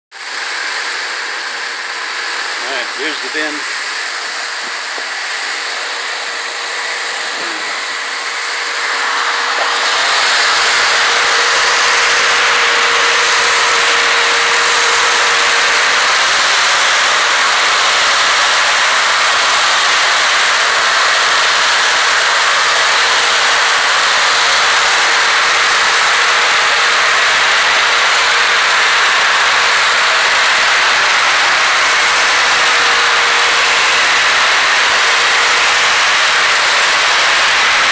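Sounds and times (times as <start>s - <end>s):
wet dry vacuum running: 0.1s - 37.9s.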